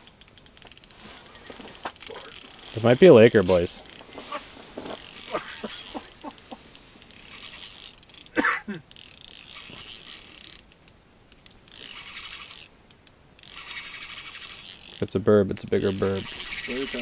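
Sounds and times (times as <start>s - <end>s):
fishing reel clicking and whirring: 0.0s - 4.1s, 4.9s - 6.4s, 7.0s - 17.0s.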